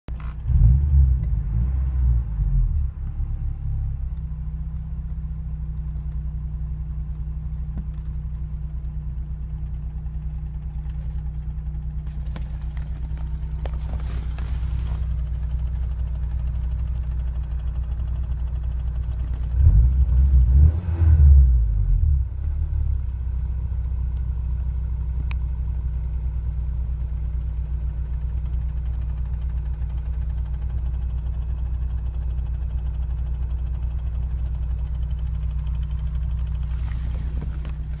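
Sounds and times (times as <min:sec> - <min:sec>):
car engine revving and idling: 0:00.1 - 0:38.0.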